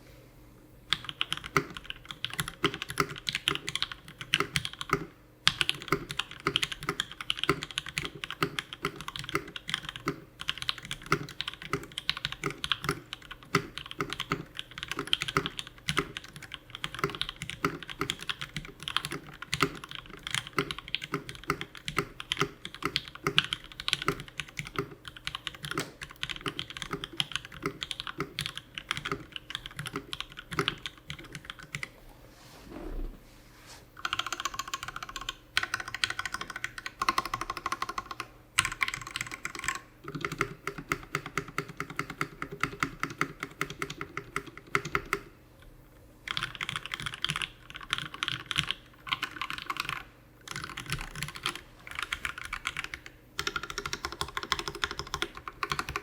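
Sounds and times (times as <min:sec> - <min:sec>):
fast typing on mechanical keyboard: 0:00.9 - 0:31.9, 0:34.0 - 0:45.3, 0:46.2 - 0:56.0.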